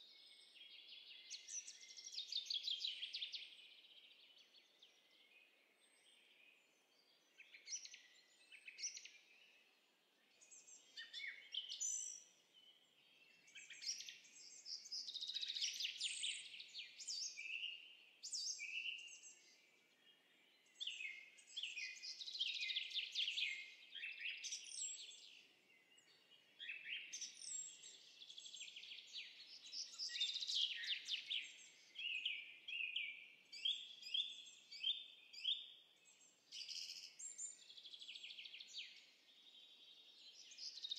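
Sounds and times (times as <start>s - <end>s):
birds chirping and trilling: 0.3s - 40.9s.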